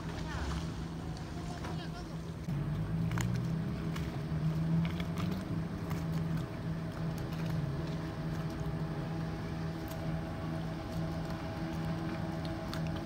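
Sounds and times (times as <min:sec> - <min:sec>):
speedboat engine humming: 0:00.0 - 0:13.0.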